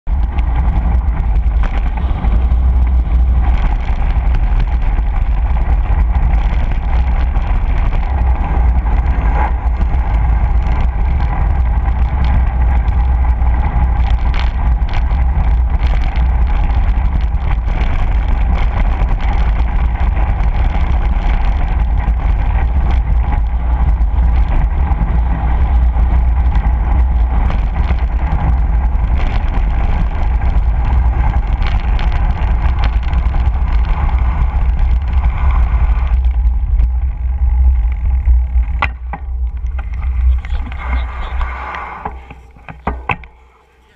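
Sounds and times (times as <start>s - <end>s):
wind rumbling on microphone: 0.0s - 43.9s
bike knocking over bumps: 0.1s - 41.0s, 42.0s - 43.9s
bike tyres on gravel: 0.1s - 43.9s.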